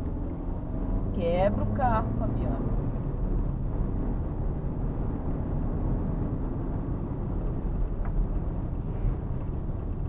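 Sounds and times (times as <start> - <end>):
car interior driving rumble: 0.0 - 10.0.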